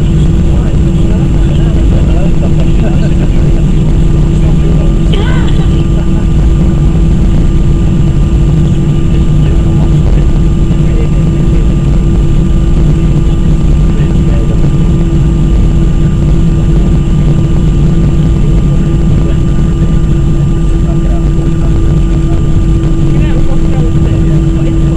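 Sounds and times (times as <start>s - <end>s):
faint high whine: 0.0s - 24.9s
jet engines rumbling in cabin: 0.0s - 24.9s.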